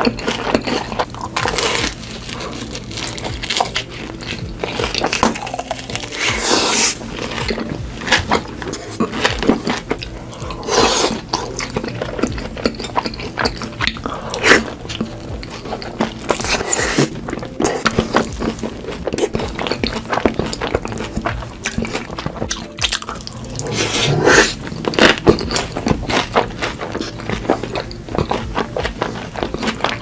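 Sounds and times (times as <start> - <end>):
wet chewing and lip-smacking: 0.0 - 30.0.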